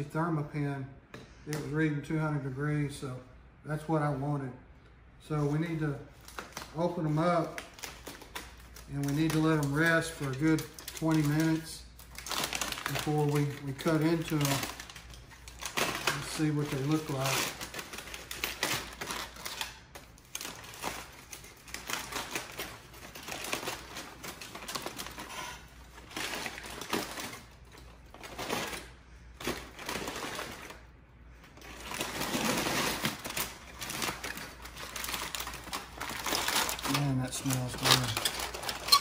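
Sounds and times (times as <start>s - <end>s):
aluminum foil crinkling: 5.6s - 39.0s.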